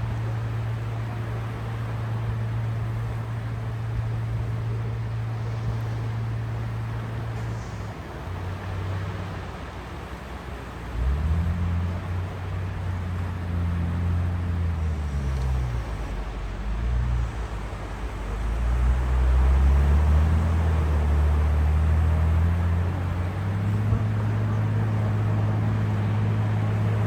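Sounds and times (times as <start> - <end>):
low engine drone: 0.0 - 27.0
sea waves: 0.0 - 27.0.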